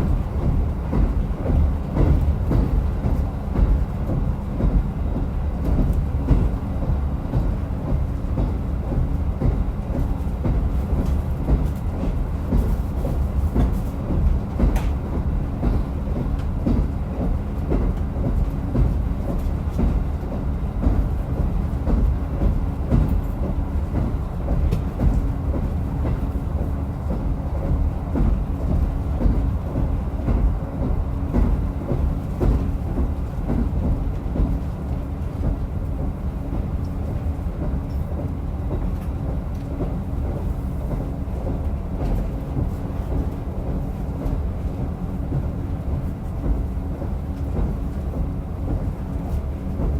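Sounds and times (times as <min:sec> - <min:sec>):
rail joint clicks: 0:00.0 - 0:49.9
wheels rumbling on track: 0:00.0 - 0:49.9.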